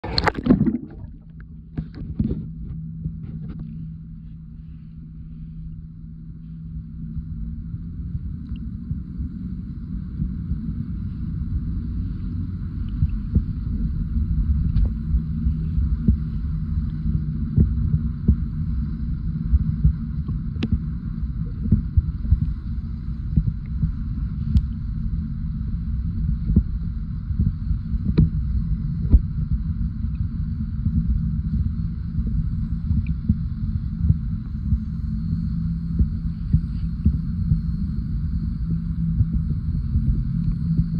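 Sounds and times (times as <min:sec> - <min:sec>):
low rumble of moving water: 0:00.0 - 0:40.9
steady low hum: 0:00.0 - 0:40.9.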